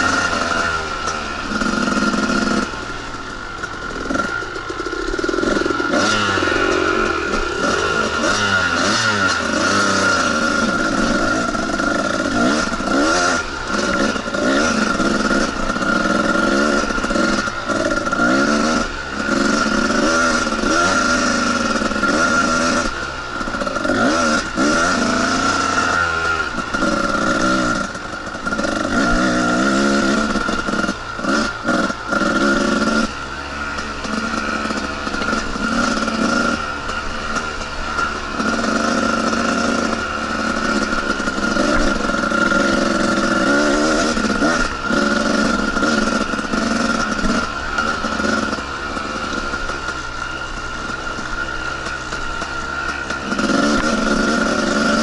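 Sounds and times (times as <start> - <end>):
dirt bike engine: 0.0 - 55.0.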